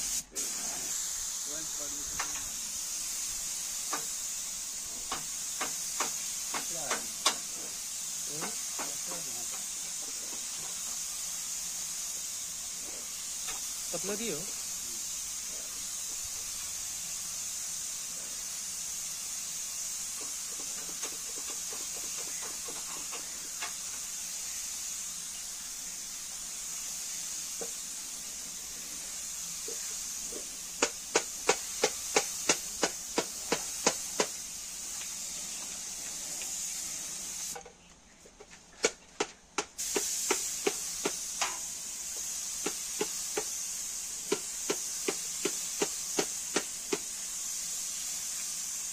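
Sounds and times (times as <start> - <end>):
paint spray gun hissing: 0.0 - 37.7, 38.8 - 48.9.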